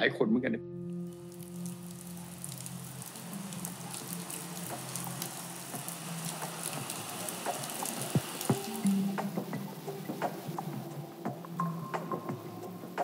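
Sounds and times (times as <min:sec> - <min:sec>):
rain hissing: 0:01.0 - 0:13.0
raindrops dripping and tapping: 0:01.0 - 0:13.0.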